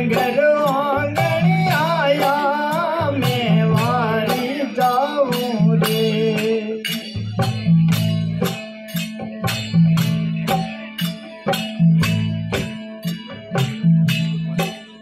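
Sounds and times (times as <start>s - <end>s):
droning string instrument: 0.0s - 15.0s
hand drum beat: 0.0s - 15.0s
harmonium: 0.0s - 15.0s.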